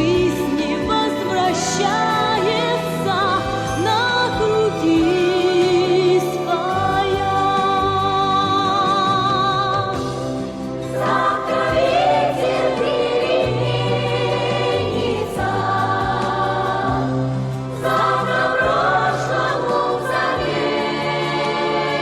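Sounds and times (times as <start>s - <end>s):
choir singing wordless phrases: 0.0s - 22.0s.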